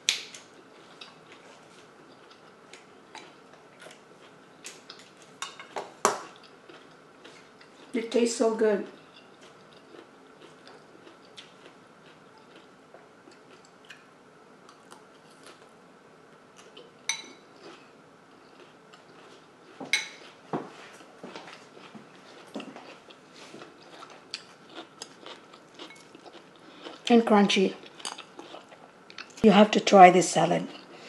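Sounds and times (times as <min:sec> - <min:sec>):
crunchy chewing of salad: 0:00.0 - 0:08.0, 0:08.9 - 0:29.4, 0:30.7 - 0:31.0.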